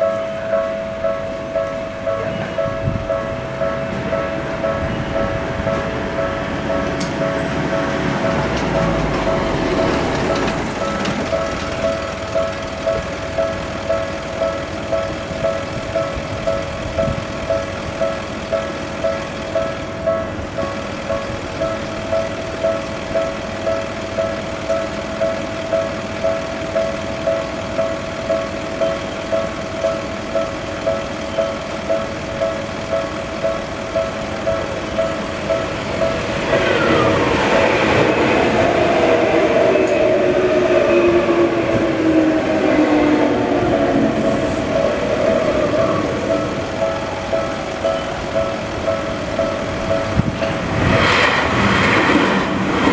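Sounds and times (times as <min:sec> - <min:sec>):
level crossing electronic bell: 0:00.0 - 0:40.4, 0:42.0 - 0:50.8
train passing with whine: 0:00.0 - 0:52.9.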